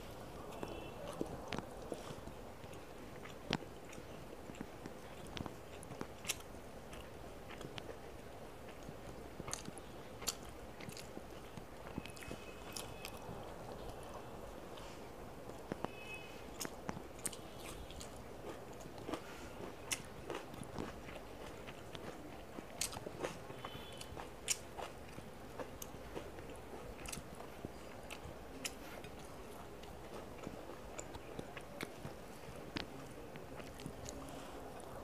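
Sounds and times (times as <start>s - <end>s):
person chewing food: 0.1s - 35.0s.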